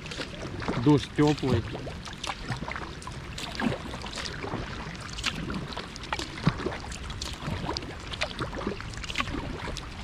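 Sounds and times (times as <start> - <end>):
paddle splashing in water: 0.0 - 10.0
rain falling on river: 0.0 - 10.0.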